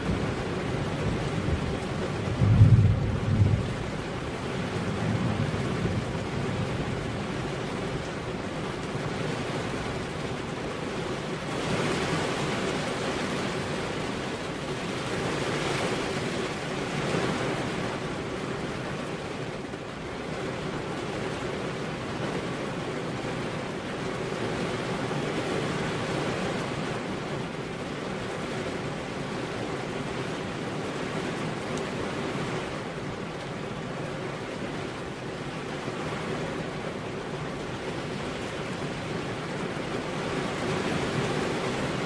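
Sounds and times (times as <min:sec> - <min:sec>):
steady rain: 0:00.0 - 0:42.0
wind: 0:00.0 - 0:42.0.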